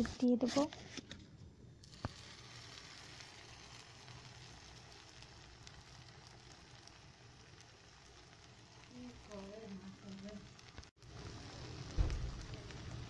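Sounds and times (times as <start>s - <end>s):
egg sizzling in a hot pan: 1.8s - 13.0s.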